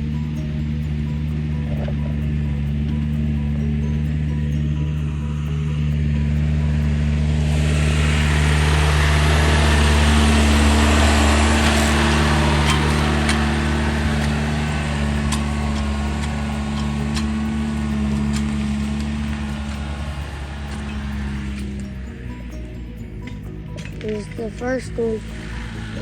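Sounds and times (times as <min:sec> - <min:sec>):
excavator diesel engine droning: 0:00.0 - 0:26.0.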